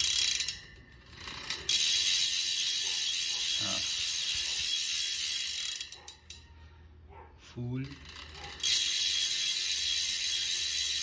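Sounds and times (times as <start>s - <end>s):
bicycle hub freewheel clicking: 0.0s - 6.5s, 7.8s - 11.0s.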